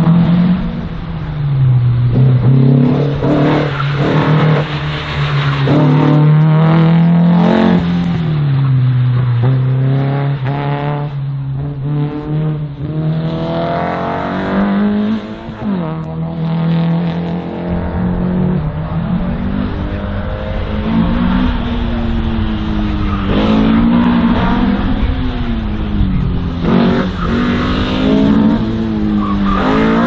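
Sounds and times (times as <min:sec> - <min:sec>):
car engine revving hard: 0:02.0 - 0:30.0.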